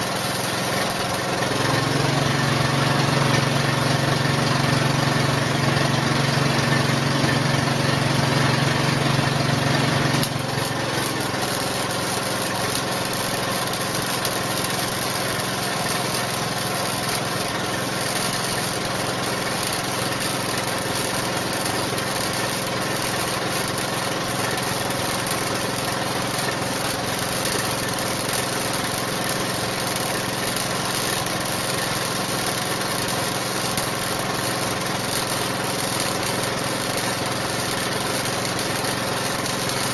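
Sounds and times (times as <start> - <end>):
angle grinder on steel: 0.0 - 39.9
welding arc crackling and hissing: 0.0 - 39.9
welding machine drone: 0.0 - 39.9.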